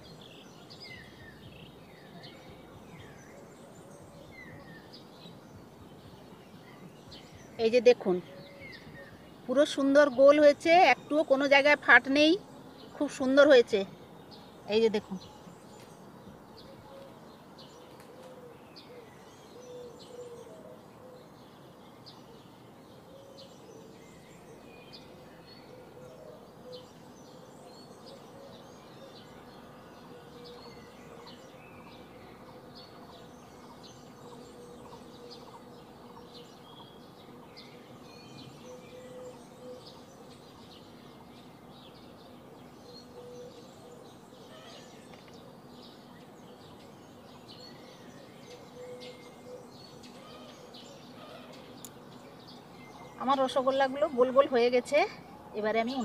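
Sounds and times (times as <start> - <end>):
birds chirping: 0.0 - 56.0
low background noise: 0.0 - 56.0.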